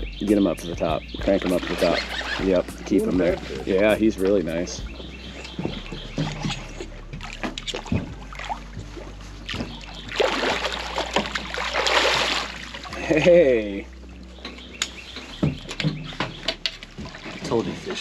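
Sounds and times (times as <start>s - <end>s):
fish thrashing and splashing: 1.3s - 13.3s, 14.5s - 18.0s.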